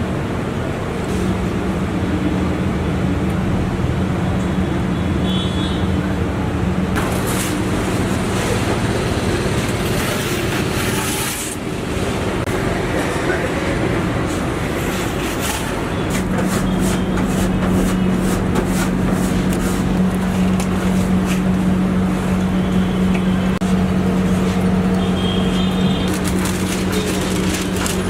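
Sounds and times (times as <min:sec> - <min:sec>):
street traffic noise: 0:00.0 - 0:28.0.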